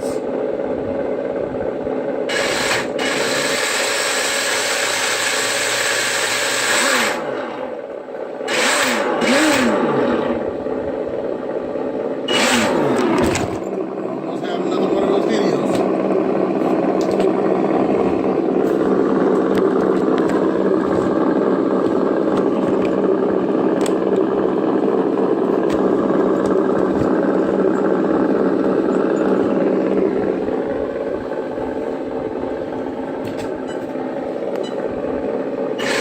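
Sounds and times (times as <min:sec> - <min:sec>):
simulated engine from speaker: 0:00.0 - 0:36.0.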